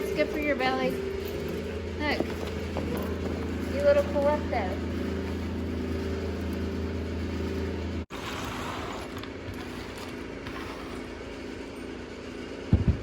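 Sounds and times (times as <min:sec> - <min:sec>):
low mechanical machine hum: 0:00.0 - 0:13.0.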